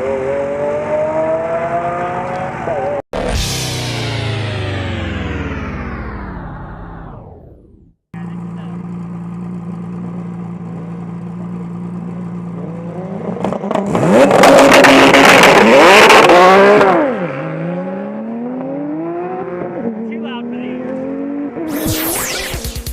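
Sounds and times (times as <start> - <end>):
sports car engine accelerating: 0.0 - 22.9.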